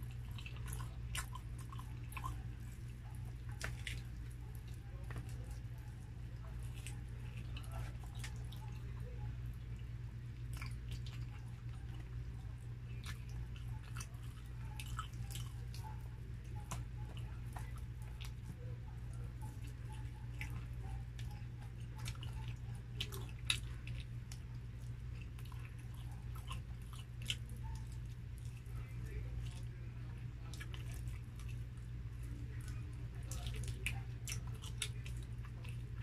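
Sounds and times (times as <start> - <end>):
person chewing food: 0.0 - 36.0.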